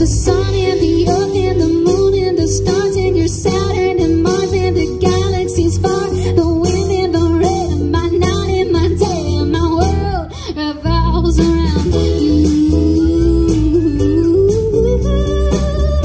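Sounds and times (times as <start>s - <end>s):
live band playing: 0.0s - 16.0s
woman singing: 0.0s - 16.0s.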